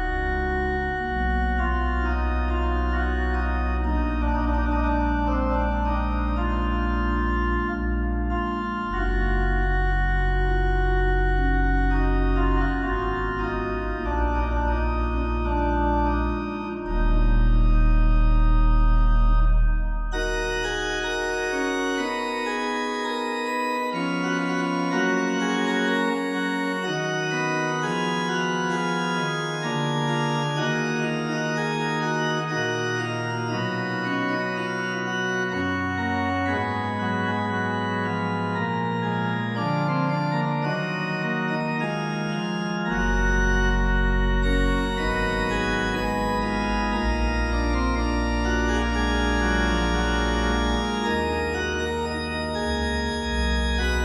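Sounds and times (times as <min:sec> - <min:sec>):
deep organ bass notes: 0:00.0 - 0:54.0
organ playing slow chords: 0:00.0 - 0:54.0.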